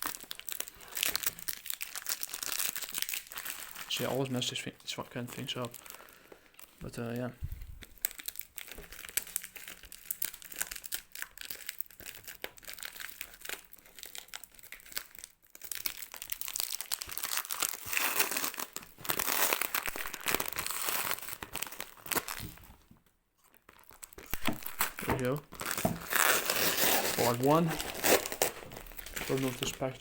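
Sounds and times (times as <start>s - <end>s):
plastic packaging crinkling: 0.0s - 22.8s, 23.4s - 30.0s.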